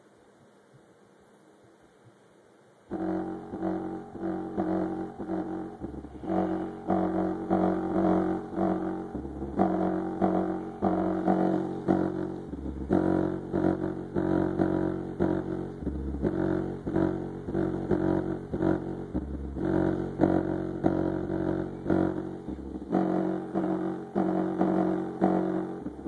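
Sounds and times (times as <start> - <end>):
bass-heavy music through subwoofer: 2.9 - 26.0.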